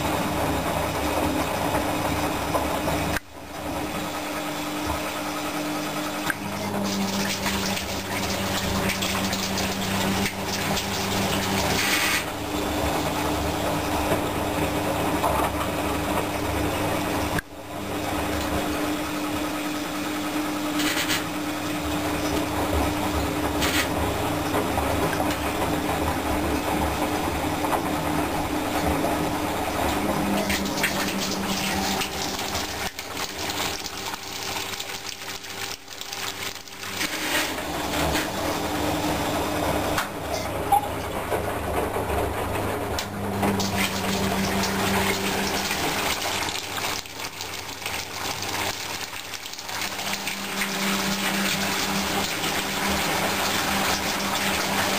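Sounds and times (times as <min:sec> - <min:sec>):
drain pump humming: 0:00.0 - 0:54.9
water gushing into tub: 0:00.0 - 0:54.9.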